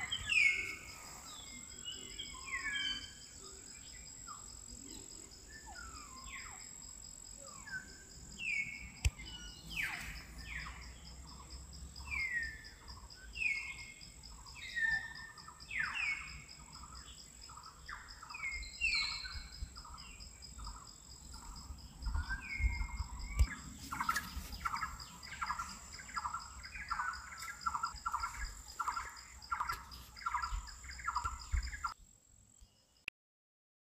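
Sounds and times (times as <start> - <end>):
birds calling: 0.0 - 6.8, 7.4 - 11.4, 13.3 - 32.0.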